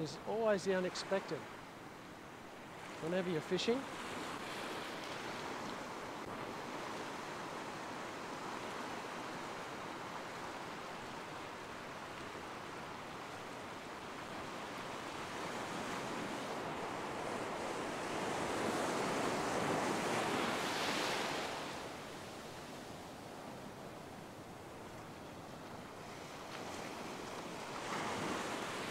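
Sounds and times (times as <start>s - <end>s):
surf washing over a beach: 0.0s - 28.9s.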